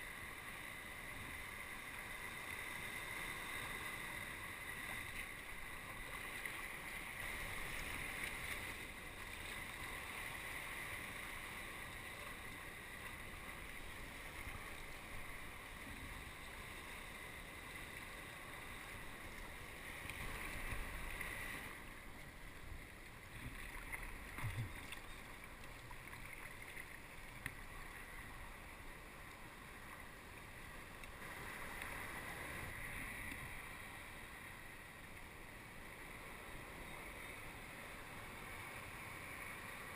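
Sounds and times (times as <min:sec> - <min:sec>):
water splashing along kayak hull: 0:00.0 - 0:39.9.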